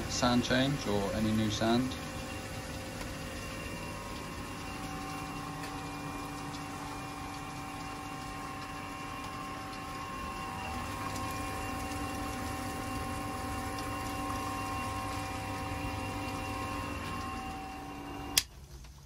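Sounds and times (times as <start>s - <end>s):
water rushing through valve: 0.0s - 18.7s
pump motor hum: 0.0s - 19.0s
pump switching off click: 0.0s - 19.0s.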